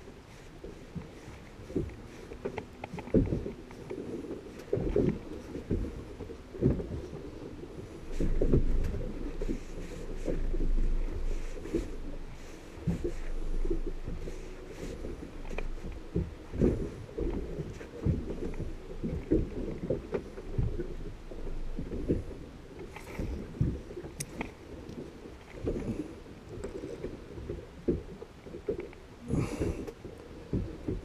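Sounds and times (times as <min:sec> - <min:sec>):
water slapping against hull: 0:00.0 - 0:31.0.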